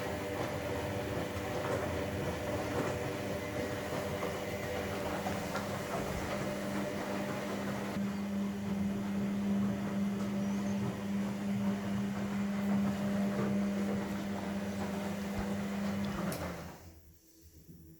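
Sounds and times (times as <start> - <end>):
electrical machine hum: 0.0 - 17.2.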